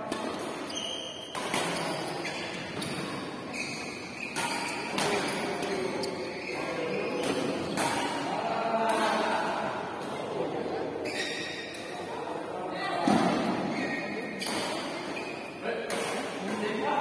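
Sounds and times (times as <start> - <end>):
voices in an echoing hall: 0.0 - 17.0.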